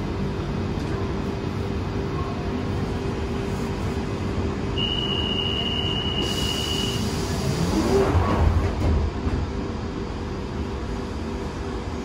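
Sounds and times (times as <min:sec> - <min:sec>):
underground train rumble: 0:00.0 - 0:12.0.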